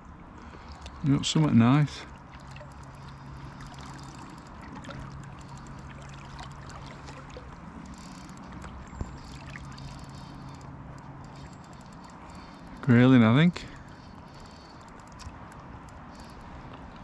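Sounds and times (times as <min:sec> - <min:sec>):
low hum: 0:00.0 - 0:17.0
river current flowing: 0:00.1 - 0:17.0.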